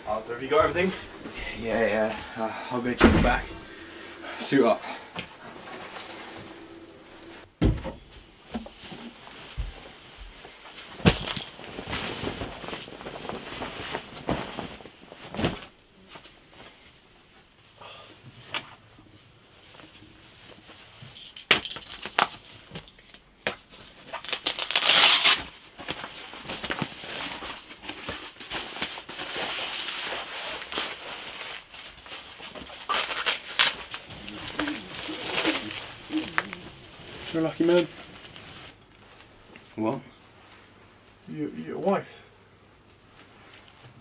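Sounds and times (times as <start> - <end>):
fabric rustling: 0.0 - 17.6, 22.1 - 41.2.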